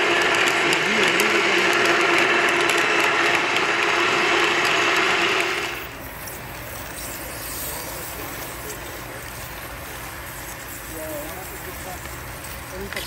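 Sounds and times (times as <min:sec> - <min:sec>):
rapid clicking: 0:00.0 - 0:13.0
robot motors whirring: 0:00.0 - 0:13.0
steady hum: 0:00.0 - 0:13.0.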